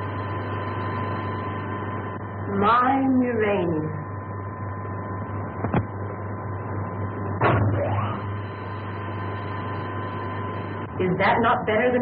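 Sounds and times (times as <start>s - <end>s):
electrical hum with high tone: 0.0s - 12.0s.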